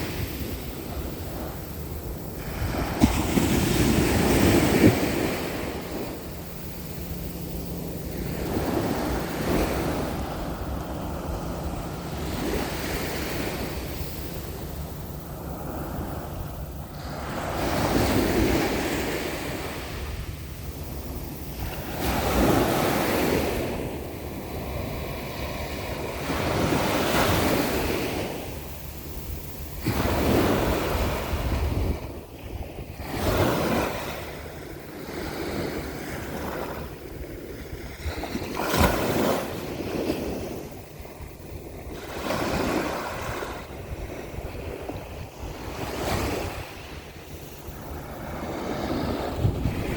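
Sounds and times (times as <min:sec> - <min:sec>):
sea waves breaking on shore: 0:00.0 - 0:49.9
wind buffeting microphone: 0:00.0 - 0:49.9.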